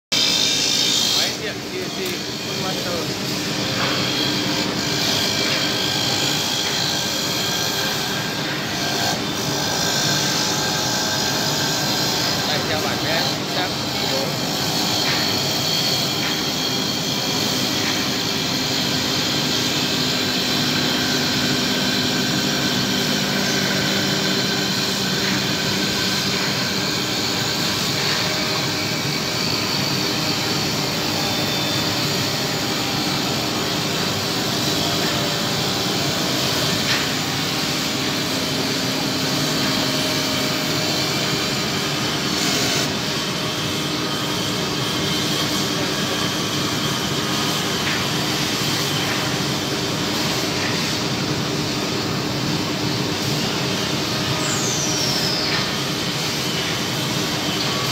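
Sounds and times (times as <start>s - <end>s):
wood-turning lathe whirring: 0.1s - 57.9s
rotating polishing brush: 0.2s - 57.9s.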